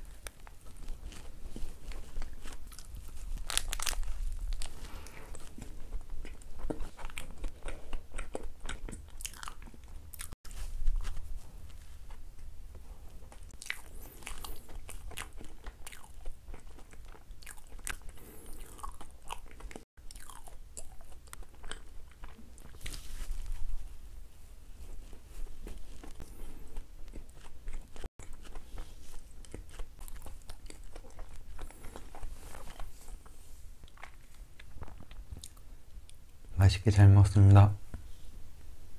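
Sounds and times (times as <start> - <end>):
person chewing and crunching: 0.0 - 12.4, 13.2 - 23.7, 24.8 - 36.4.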